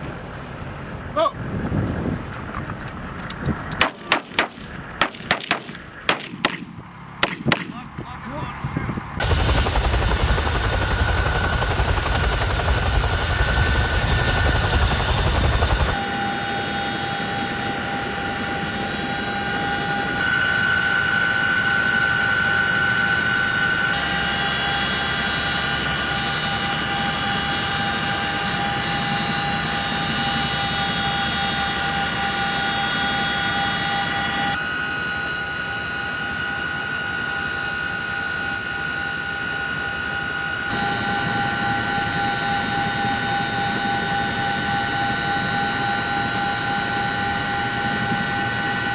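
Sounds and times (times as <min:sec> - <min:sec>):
helicopter turbine whine: 0:00.0 - 0:48.9
helicopter rotor noise: 0:02.4 - 0:48.9.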